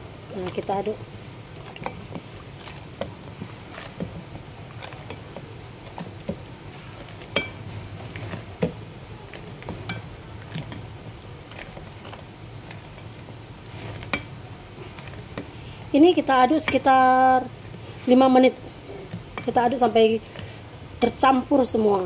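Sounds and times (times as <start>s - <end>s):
spoon stirring batter: 0.3s - 21.4s.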